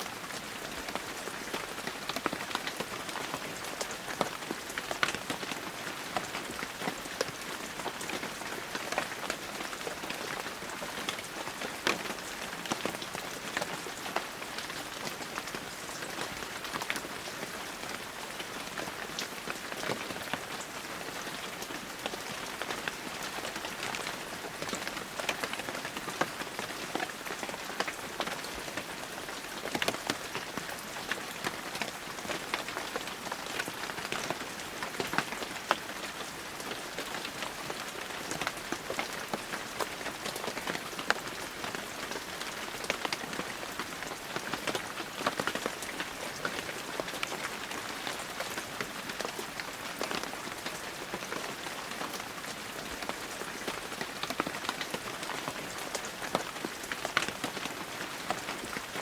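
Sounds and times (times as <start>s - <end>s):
heavy rain: 0.0s - 59.0s
raindrops hitting surfaces: 0.0s - 59.0s.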